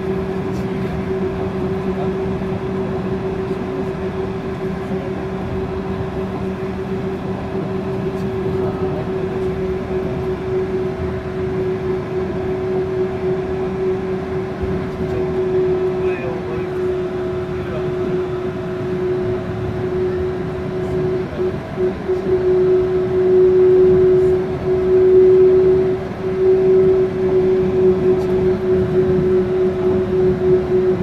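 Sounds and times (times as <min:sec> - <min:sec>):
train drive whine: 0:00.0 - 0:31.0.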